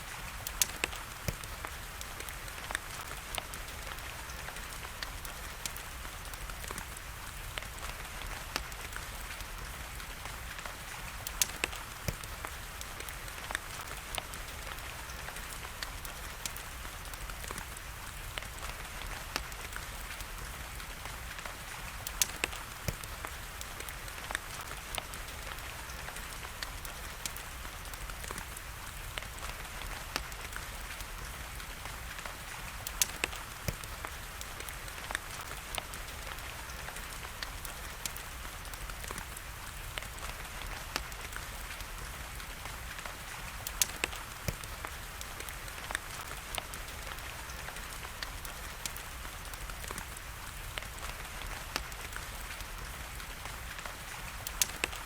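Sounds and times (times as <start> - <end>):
rain hiss: 0.0 - 55.0
wood fire popping: 0.1 - 55.0.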